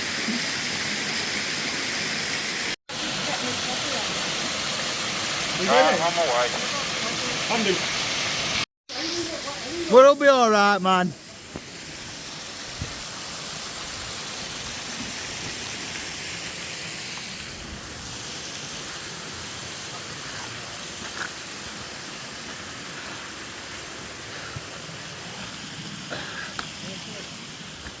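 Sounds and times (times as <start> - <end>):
water rushing from stream and waterfall: 0.0 - 28.0.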